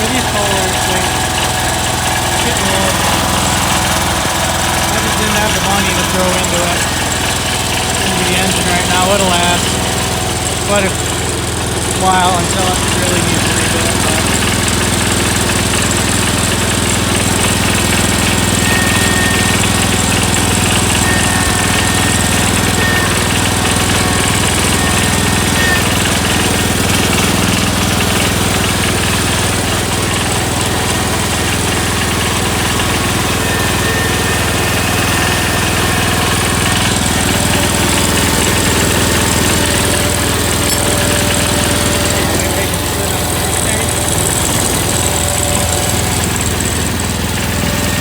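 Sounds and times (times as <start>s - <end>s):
garden tractor engine running: 0.0s - 48.0s.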